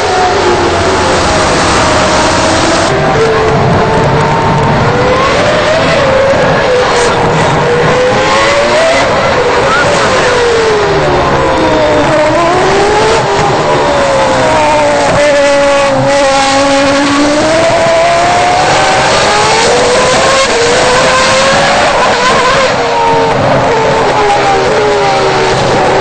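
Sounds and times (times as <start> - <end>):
racing car engine revving: 0.0 - 26.0.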